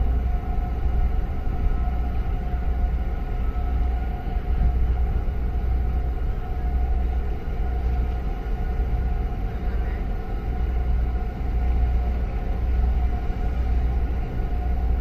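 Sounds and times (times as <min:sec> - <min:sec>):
ship engine rumble and drone: 0:00.0 - 0:15.0.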